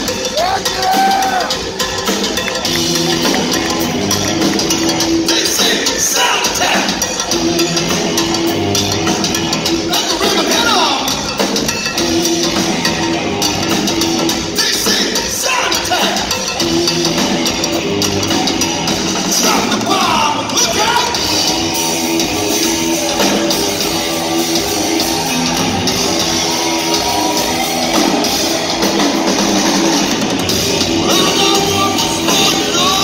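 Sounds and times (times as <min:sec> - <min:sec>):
cowbell beaten: 0:00.0 - 0:33.0
hard rock band playing live: 0:00.0 - 0:33.0.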